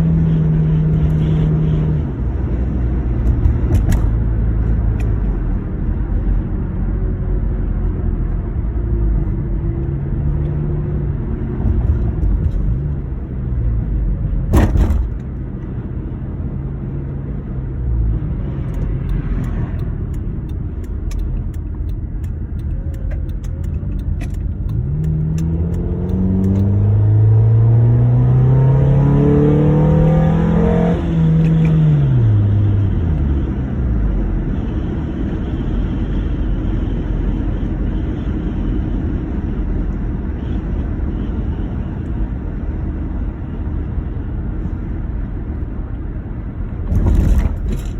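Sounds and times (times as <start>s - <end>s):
car engine running and revving: 0.0s - 47.9s.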